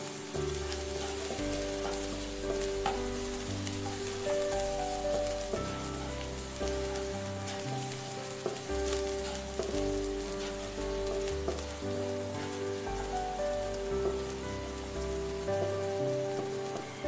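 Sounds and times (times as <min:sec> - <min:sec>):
background music of held notes: 0:00.0 - 0:17.0
garlic sizzling in hot oil: 0:00.0 - 0:17.0
spatula scraping wok: 0:00.0 - 0:17.0.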